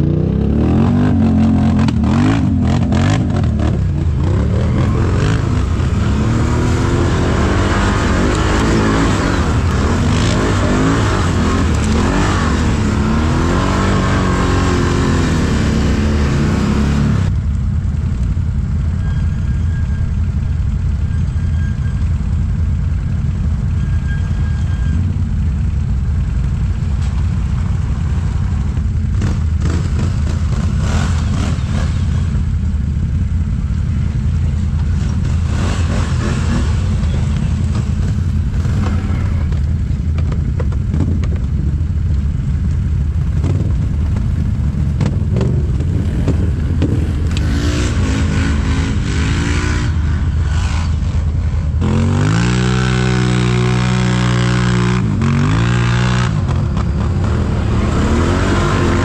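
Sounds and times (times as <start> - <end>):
atv engines revving: 0.0 - 59.0.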